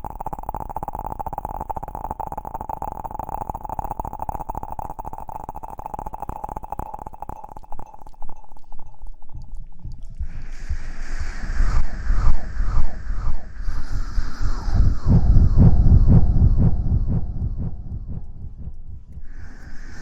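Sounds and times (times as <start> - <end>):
steady mid-pitched tone: 0.0 - 20.0.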